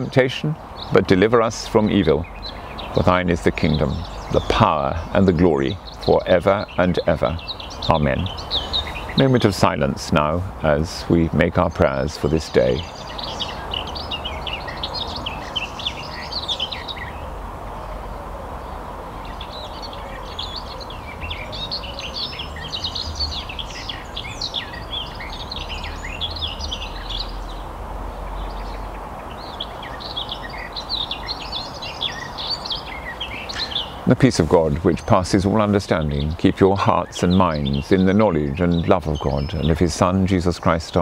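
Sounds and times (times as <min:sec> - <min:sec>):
songbirds singing and chirping: 0:00.0 - 0:41.0.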